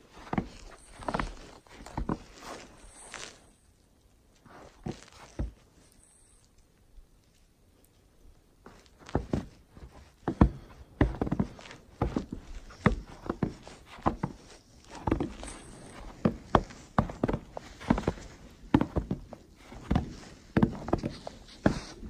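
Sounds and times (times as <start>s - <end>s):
footsteps on wooden planks: 0.0s - 3.4s, 4.4s - 5.7s, 8.6s - 22.0s.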